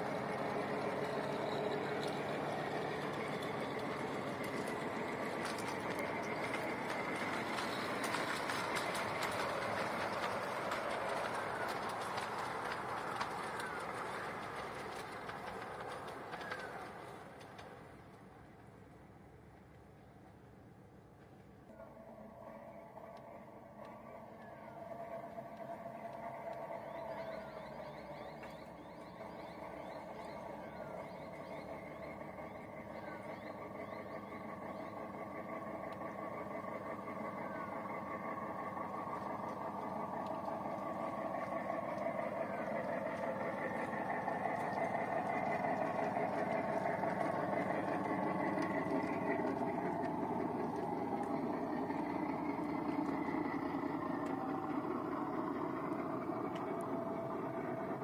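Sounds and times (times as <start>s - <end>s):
miniature train running on rails: 0.0s - 58.0s.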